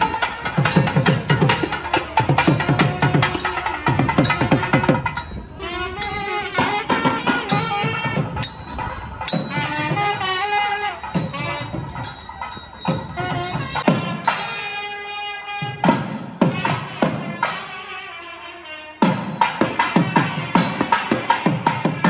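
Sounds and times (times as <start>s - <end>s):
thavil drum strokes: 0.0s - 14.9s, 19.0s - 22.0s
nadaswaram melody: 0.0s - 22.0s.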